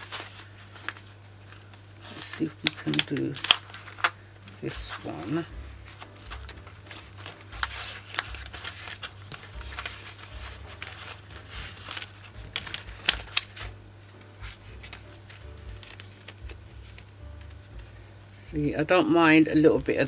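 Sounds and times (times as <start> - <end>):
paper rustling and tapping: 0.0 - 20.0
steady low hum: 0.0 - 20.0.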